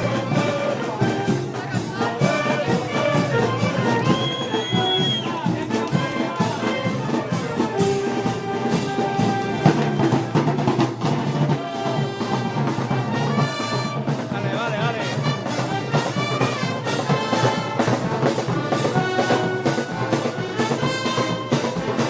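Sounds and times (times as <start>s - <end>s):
brass band playing march: 0.0s - 22.0s
steady drum beat: 0.0s - 22.0s.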